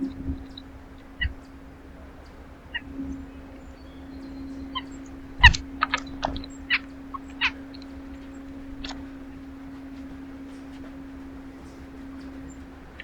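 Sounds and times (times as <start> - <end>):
bird harsh calls: 0.0 - 13.0
steady low hum: 0.0 - 13.0.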